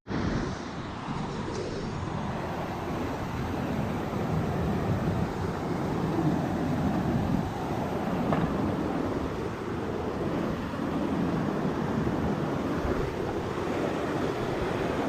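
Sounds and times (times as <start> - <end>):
river water rushing: 0.1 - 15.0
wind buffeting microphone: 0.1 - 15.0.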